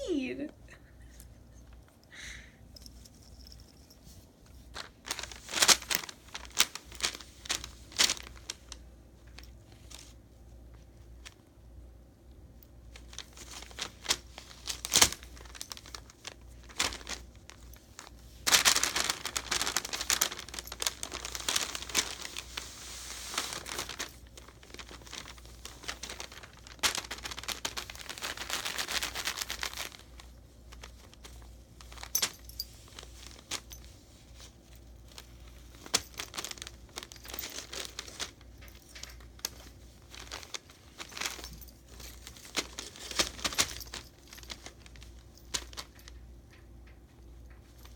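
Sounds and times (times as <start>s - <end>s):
tissue paper rustling: 2.8s - 11.4s, 12.9s - 46.2s.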